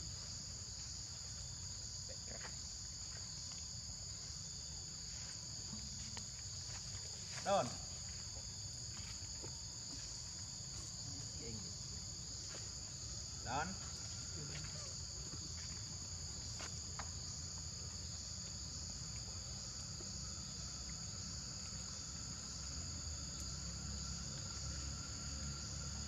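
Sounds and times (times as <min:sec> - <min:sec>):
forest insects droning: 0:00.0 - 0:26.0.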